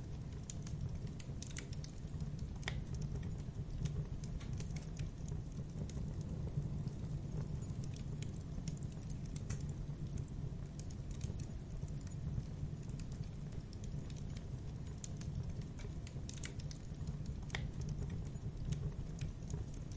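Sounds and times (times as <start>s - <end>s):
campfire crackling and popping: 0.0s - 19.9s
low fire rumble: 0.0s - 19.9s.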